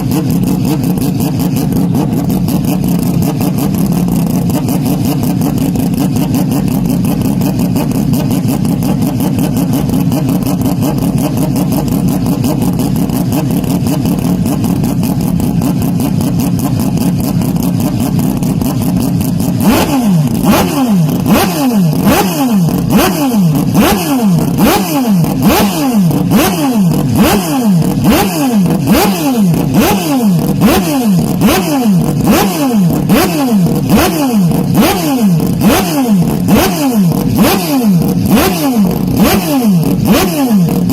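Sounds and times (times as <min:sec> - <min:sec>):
engine crackles: 0:00.0 - 0:40.9
motorbike engines revving: 0:00.0 - 0:40.9.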